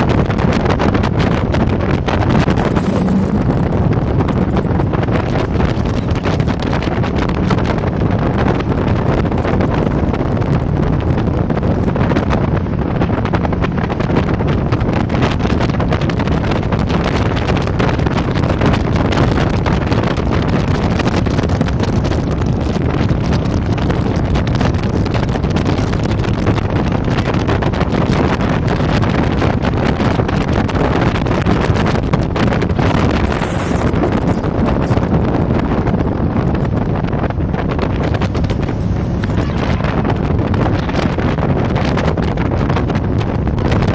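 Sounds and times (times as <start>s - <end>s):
speedboat engine: 0.0s - 43.9s
wind buffeting microphone: 0.0s - 43.9s.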